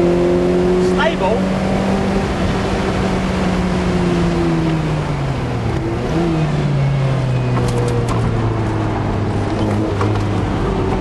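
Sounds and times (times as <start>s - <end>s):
car engine from inside cabin: 0.0s - 11.0s
road and wind noise: 0.0s - 11.0s.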